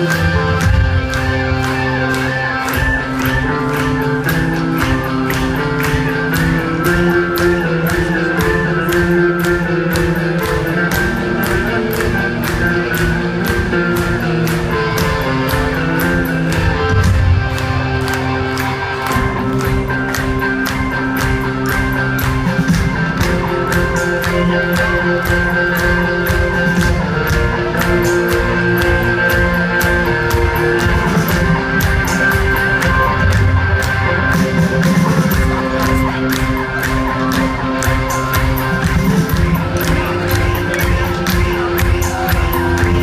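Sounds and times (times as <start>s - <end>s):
electric guitars: 0.0s - 43.0s
steady drum beat: 0.0s - 43.0s.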